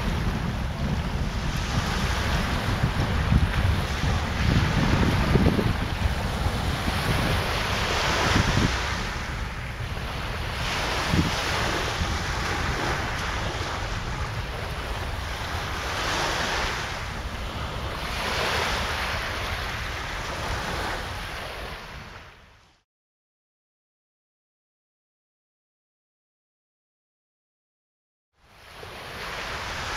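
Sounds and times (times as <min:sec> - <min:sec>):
surf washing ashore: 0:00.0 - 0:22.7, 0:28.4 - 0:29.9
wind rumbling on microphone: 0:00.0 - 0:22.8, 0:28.5 - 0:29.9.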